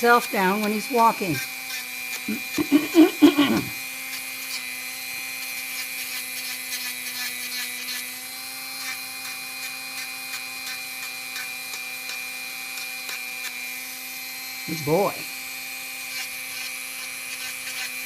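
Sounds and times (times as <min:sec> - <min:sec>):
rotary tool grinding: 0:00.0 - 0:18.0
faint scratching on nail: 0:00.1 - 0:13.6, 0:16.0 - 0:18.0.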